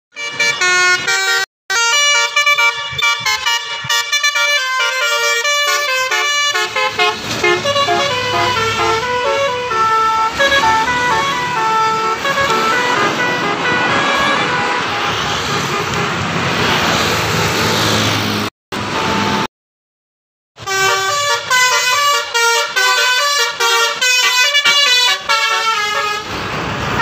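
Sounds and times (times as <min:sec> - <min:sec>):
bus horn playing a tune: 0:00.1 - 0:16.4, 0:18.8 - 0:19.5, 0:20.6 - 0:27.0
road traffic passing: 0:00.1 - 0:19.5, 0:20.6 - 0:27.0.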